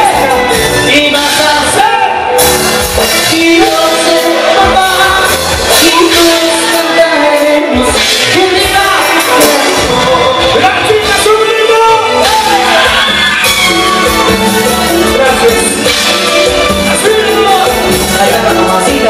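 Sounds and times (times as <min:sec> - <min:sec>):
man singing: 0:00.0 - 0:13.0, 0:13.7 - 0:19.0
live rock band: 0:00.0 - 0:19.0.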